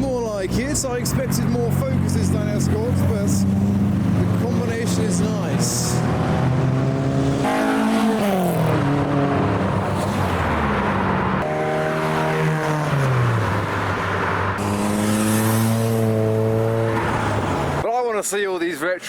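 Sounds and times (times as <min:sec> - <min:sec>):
cars driving past: 0:00.3 - 0:17.8.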